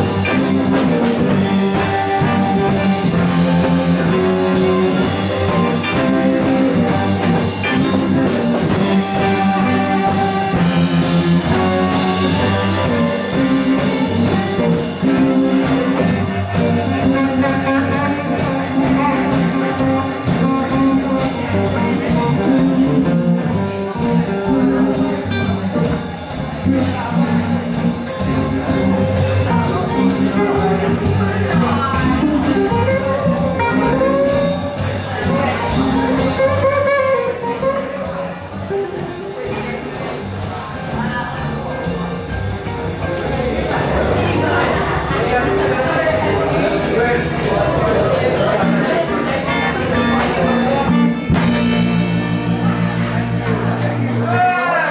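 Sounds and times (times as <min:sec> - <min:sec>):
drum kit steady beat: 0:00.0 - 0:54.6
electric guitars: 0:00.0 - 0:54.9.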